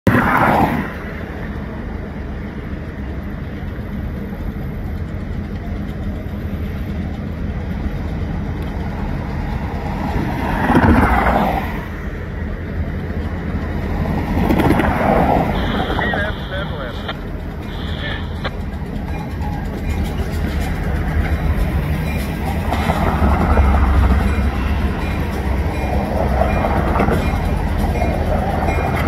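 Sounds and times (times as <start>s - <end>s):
locomotive engines rumbling: 0.1s - 29.0s.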